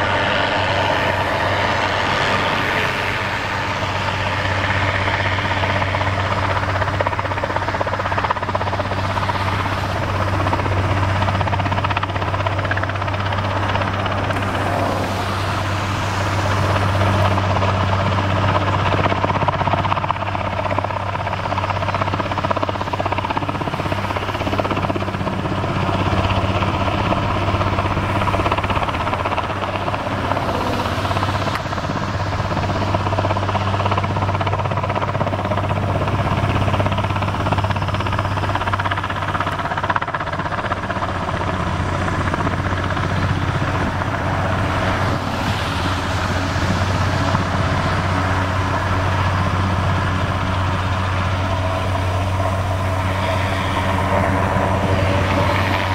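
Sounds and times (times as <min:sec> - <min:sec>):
helicopter hovering: 0:00.0 - 0:55.9.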